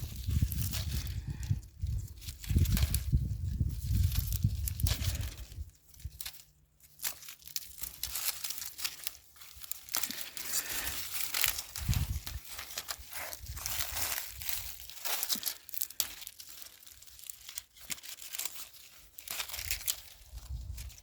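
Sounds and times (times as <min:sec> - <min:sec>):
dry plants rustling and crackling: 0:00.0 - 0:21.0.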